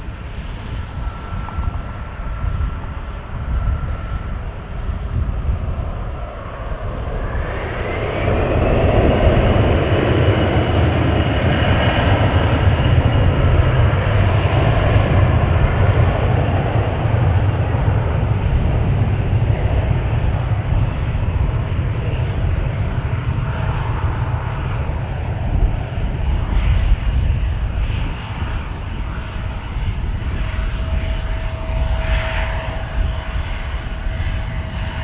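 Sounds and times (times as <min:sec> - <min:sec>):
jet airliner engines whining: 0:00.0 - 0:35.0
wind rumble on microphone: 0:00.0 - 0:35.0.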